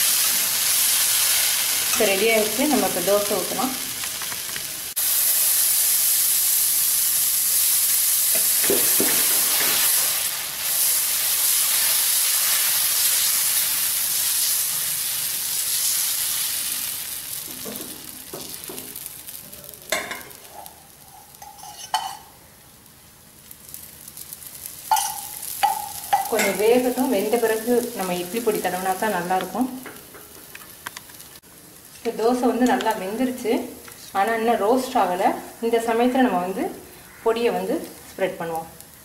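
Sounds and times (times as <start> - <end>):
batter sizzling on hot griddle: 0.0 - 39.0.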